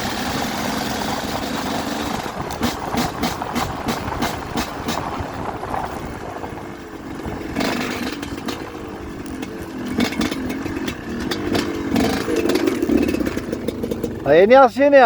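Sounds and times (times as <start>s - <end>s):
dirt bike engine revving: 0.0s - 15.0s
sharp knocks and clatters: 0.1s - 6.1s, 7.5s - 14.2s.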